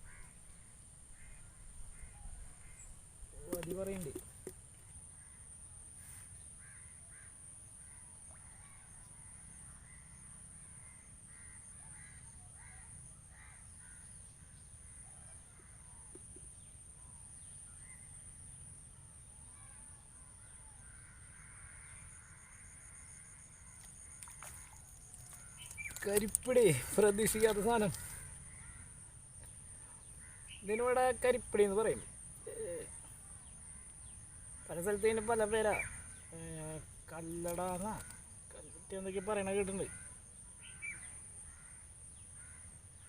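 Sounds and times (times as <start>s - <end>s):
distant crows cawing: 0.0s - 2.9s, 6.6s - 16.4s, 19.6s - 43.0s.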